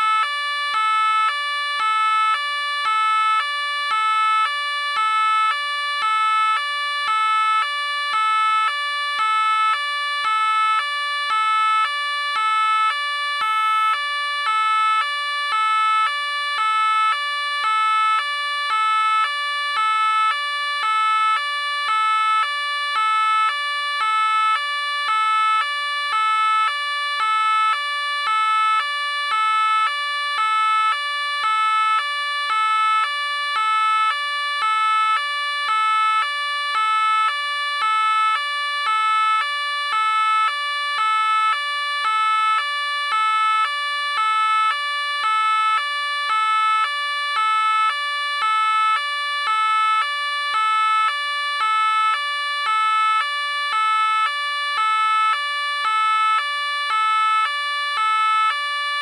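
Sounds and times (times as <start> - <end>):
police car two-tone siren: 0.0 - 59.0.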